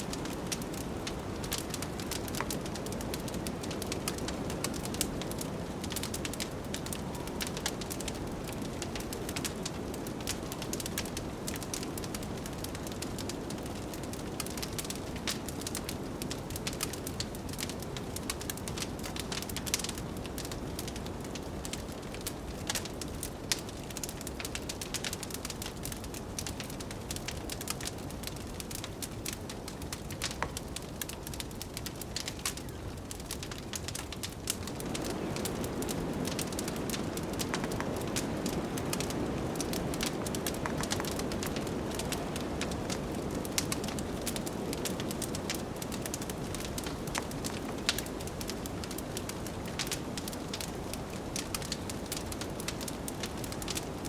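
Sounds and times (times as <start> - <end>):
low rumble of blizzard wind: 0.0 - 54.0
wood fire crackling: 0.0 - 54.0.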